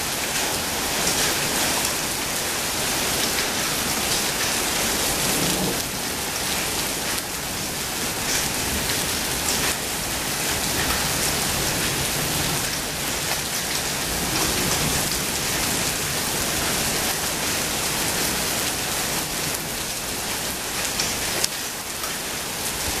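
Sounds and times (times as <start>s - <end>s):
rain falling on lawn and paving: 0.0s - 23.0s
sharp ticks of raindrops: 0.0s - 23.0s.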